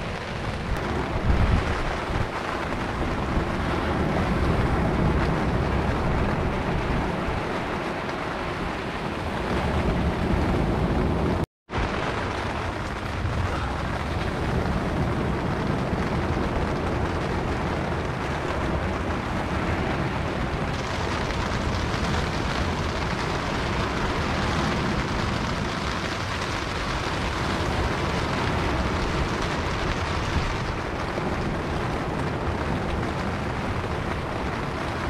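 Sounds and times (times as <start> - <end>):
surf breaking on beach: 0.0 - 35.0
wind buffeting microphone: 0.0 - 35.0.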